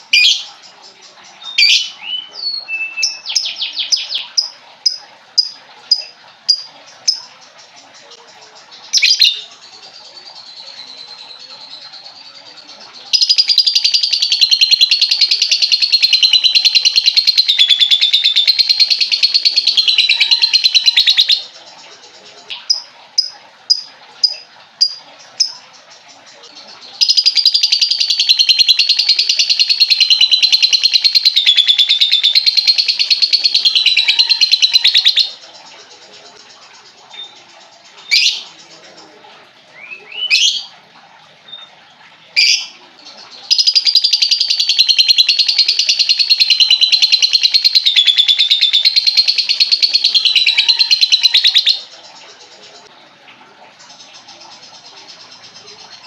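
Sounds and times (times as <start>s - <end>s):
lovebird chattering: 0.0s - 40.8s, 42.4s - 52.9s.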